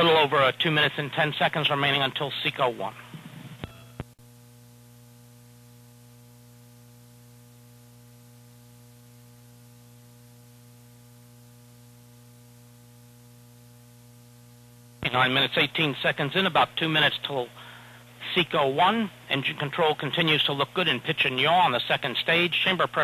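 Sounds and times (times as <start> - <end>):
electrical hum with hiss: 0.0 - 23.0.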